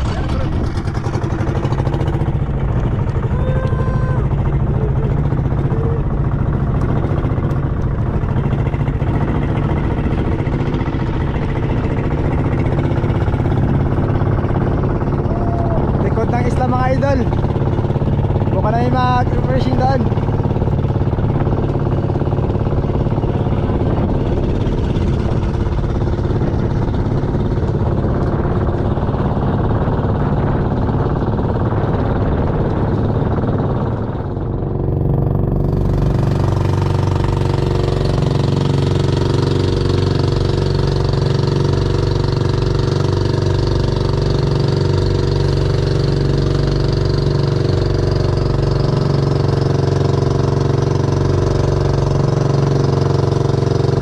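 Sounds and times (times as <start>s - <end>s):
boat engine hum: 0.0s - 54.0s
wind: 0.0s - 54.0s.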